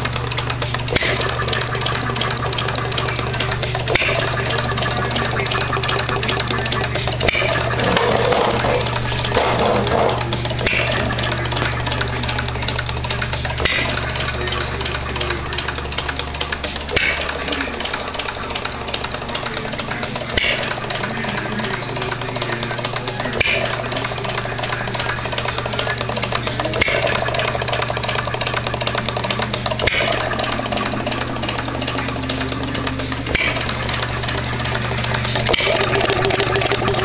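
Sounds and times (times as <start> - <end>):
engine mechanical clatter: 0.0 - 37.0.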